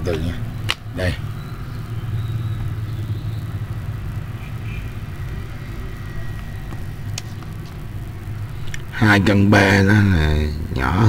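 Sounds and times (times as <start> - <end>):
faint high whine: 0.0 - 11.0
low background rumble: 0.0 - 11.0.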